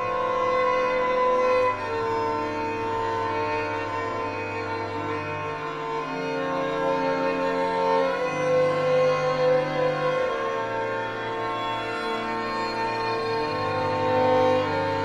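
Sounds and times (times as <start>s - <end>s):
church organ playing chords: 0.0s - 15.0s.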